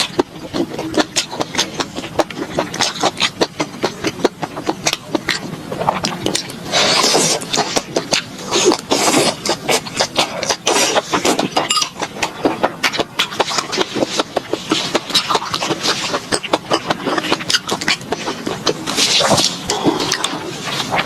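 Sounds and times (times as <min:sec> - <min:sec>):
crunchy chewing: 0:00.0 - 0:21.0
wet mouth sounds: 0:00.0 - 0:21.0.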